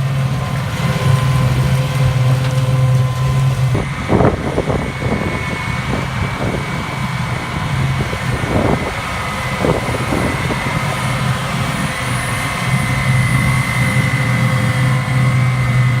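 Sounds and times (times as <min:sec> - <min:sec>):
high whine: 0:00.0 - 0:16.0
tractor engine running: 0:00.0 - 0:16.0.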